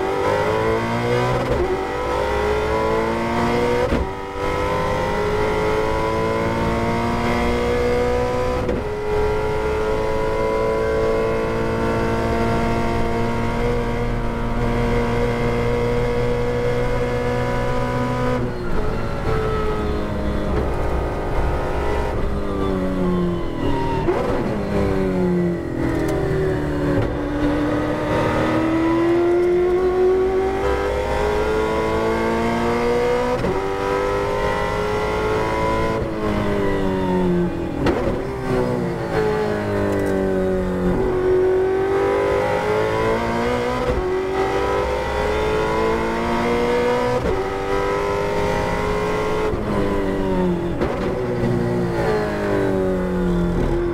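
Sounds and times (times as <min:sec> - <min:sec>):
racing engine at full throttle: 0:00.0 - 0:53.9.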